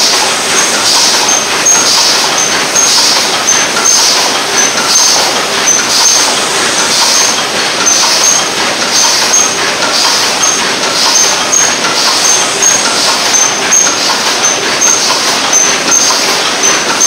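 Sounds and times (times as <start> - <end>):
machine clattering: 0.0 - 17.0
machine hiss: 0.0 - 17.0.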